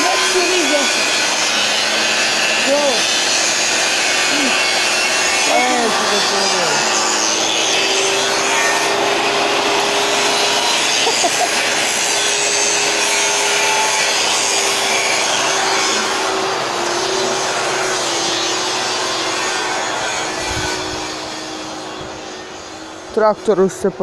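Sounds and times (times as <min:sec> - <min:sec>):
angle grinder grinding steel: 0:00.0 - 0:24.0.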